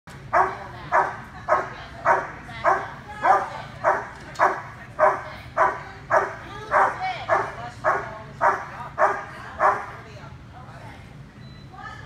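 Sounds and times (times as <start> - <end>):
dog barking: 0.3 - 10.0.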